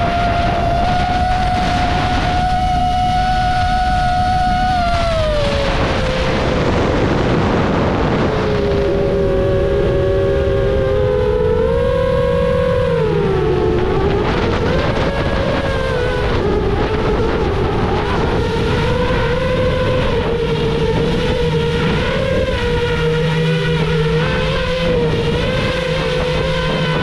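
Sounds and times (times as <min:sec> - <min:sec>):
drone propellers whining: 0:00.0 - 0:27.0
wind rumble on microphone: 0:00.0 - 0:27.0.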